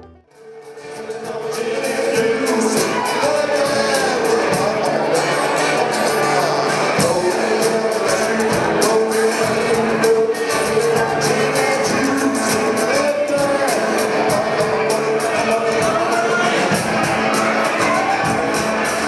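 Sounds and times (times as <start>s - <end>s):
background music with drum beat: 0.4s - 19.0s.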